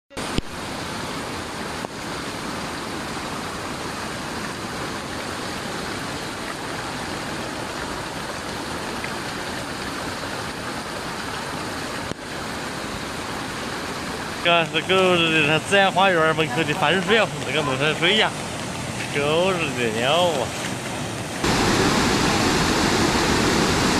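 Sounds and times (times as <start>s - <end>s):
floodwater rushing: 0.2s - 23.9s.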